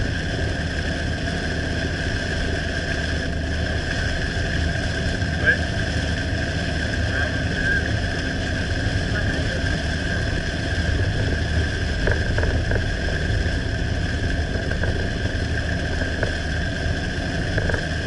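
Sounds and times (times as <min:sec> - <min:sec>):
vehicle driving on highway: 0:00.0 - 0:18.0.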